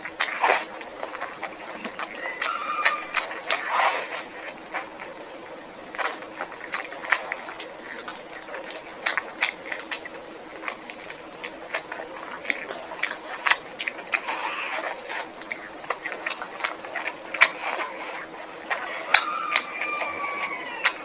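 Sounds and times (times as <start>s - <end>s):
person chewing and biting food: 0.0s - 21.0s.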